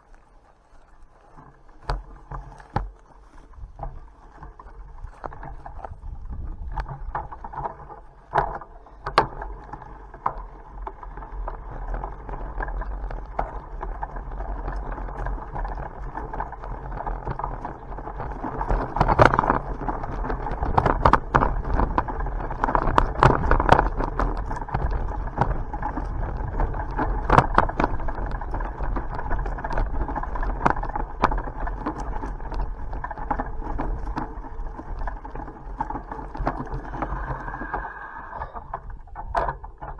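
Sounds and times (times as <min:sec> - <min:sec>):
bicycle tyres rolling on road: 0:00.0 - 0:39.9
bicycle rattling over bumps: 0:00.6 - 0:39.9.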